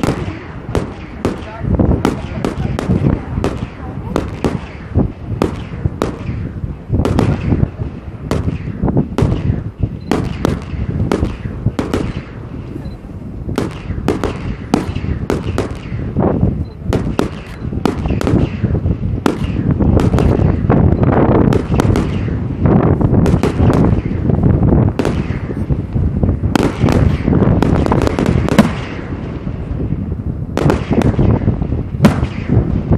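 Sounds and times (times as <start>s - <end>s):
fireworks bangs: 0.0s - 32.9s
low rumble: 0.0s - 32.9s.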